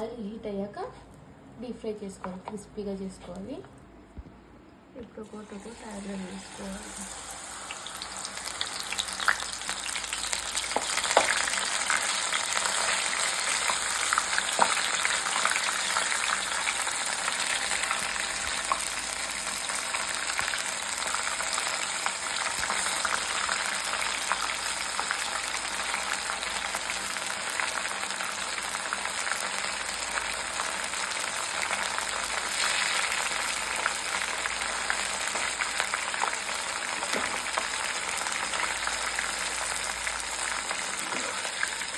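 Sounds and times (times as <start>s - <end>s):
corn deep-frying in oil: 5.2s - 41.9s.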